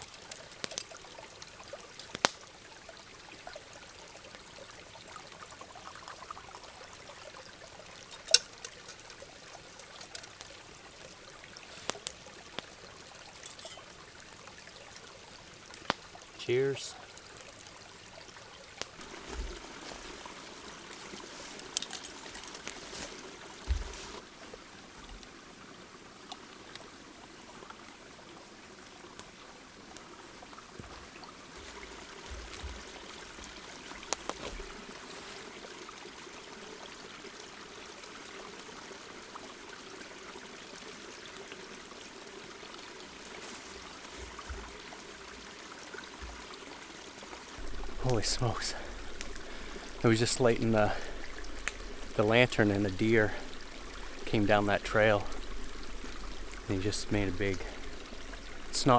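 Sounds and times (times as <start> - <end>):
creek running: 0.0 - 58.9.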